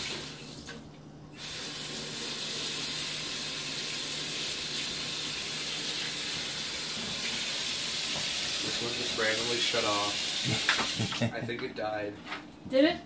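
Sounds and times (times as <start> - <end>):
water running into sink: 0.0 - 11.3.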